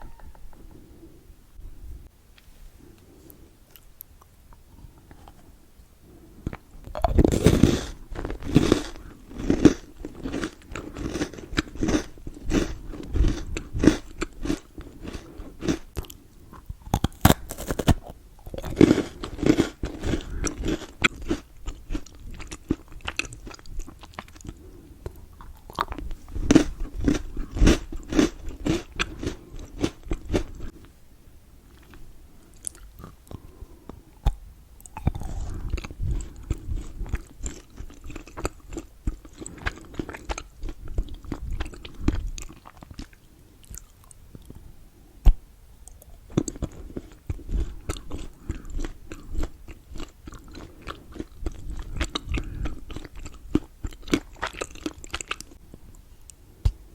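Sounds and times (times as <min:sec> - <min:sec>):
chewing: 0:06.4 - 0:30.8, 0:31.7 - 0:44.6, 0:45.8 - 0:55.6.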